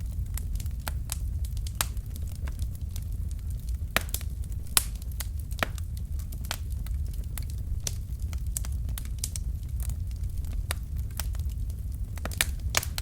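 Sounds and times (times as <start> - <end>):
loud fire pops: 0.0 - 13.0
low rumble of flames: 0.0 - 13.0
wood fire crackling: 0.0 - 13.0.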